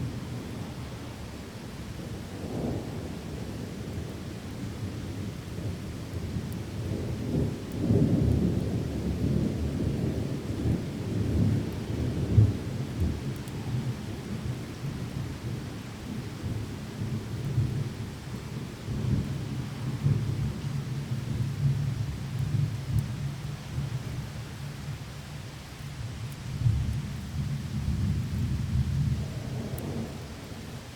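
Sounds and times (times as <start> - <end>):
heavy rain: 0.0 - 30.9
low rolling thunder: 2.0 - 24.2, 26.5 - 30.9.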